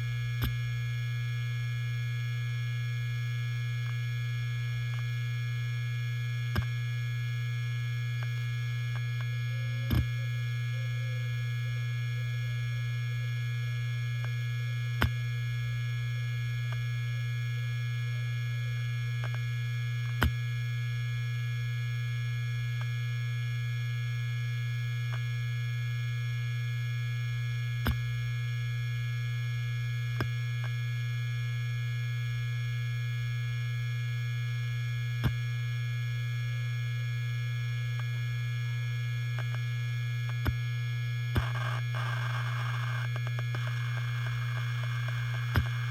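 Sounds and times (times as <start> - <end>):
hard disk drive humming: 0.0 - 45.9.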